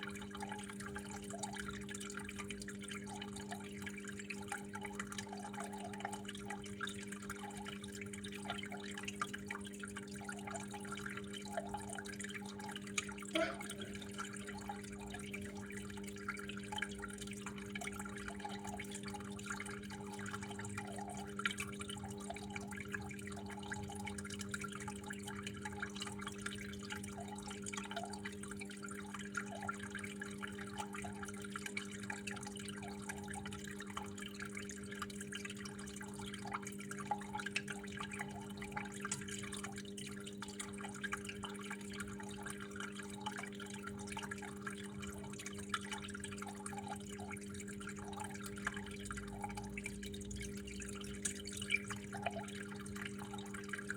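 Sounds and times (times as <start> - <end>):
water trickling and dripping: 0.0 - 53.9.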